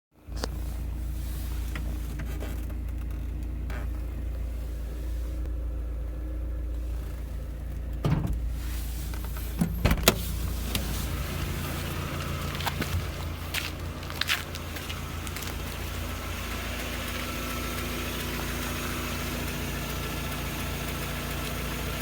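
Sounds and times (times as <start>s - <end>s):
car engine idling with ticking: 0.2s - 22.0s
car engine revving: 0.4s - 22.0s.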